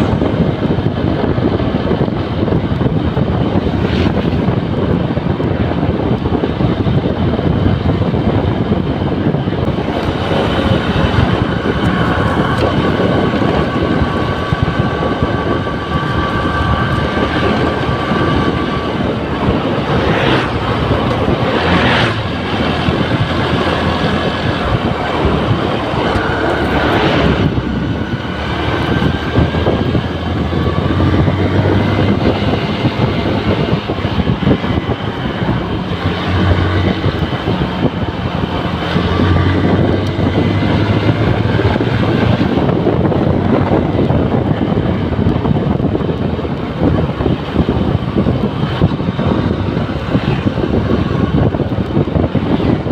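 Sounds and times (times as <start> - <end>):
motorcycle engine running: 0.0 - 52.9
passing traffic: 0.0 - 52.9
wind rushing over microphone: 0.0 - 52.9.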